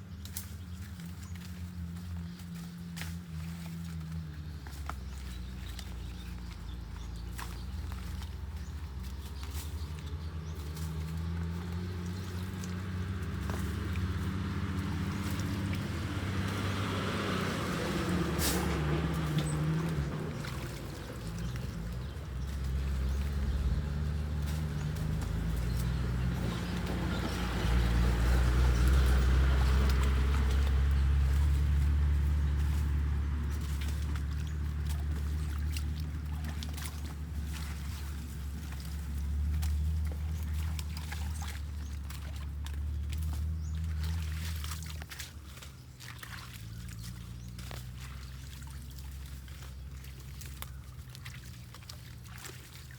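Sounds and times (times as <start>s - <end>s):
vehicle engine running: 0.0s - 52.9s
water splashes and drips: 0.0s - 52.9s
floodwater rushing down a drain: 3.3s - 52.9s.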